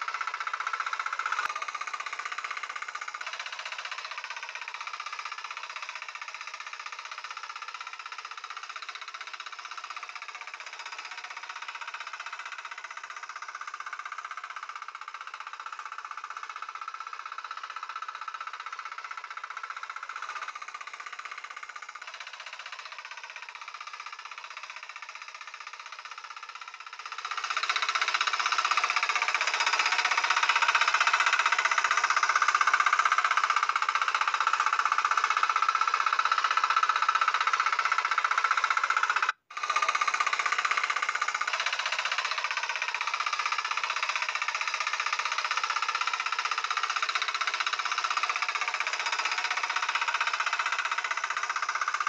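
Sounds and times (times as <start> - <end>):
small tiller engine running: 0.0 - 52.0.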